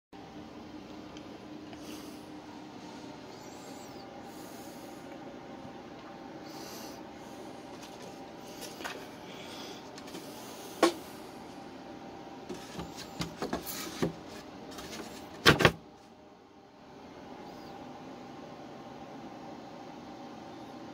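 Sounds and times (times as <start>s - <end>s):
steady low hum: 0.2s - 20.9s.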